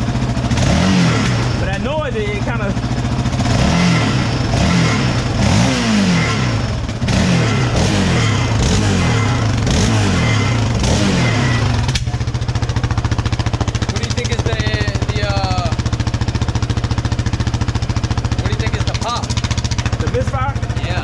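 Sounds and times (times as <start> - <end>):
atv engine revving and idling: 0.0 - 21.0
muffler rattle: 0.0 - 21.0.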